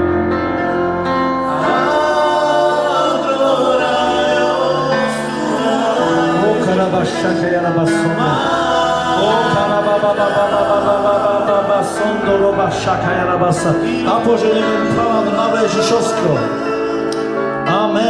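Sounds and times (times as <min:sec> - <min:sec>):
voices singing worship song: 0:00.9 - 0:18.0
man singing into a microphone: 0:01.5 - 0:18.0.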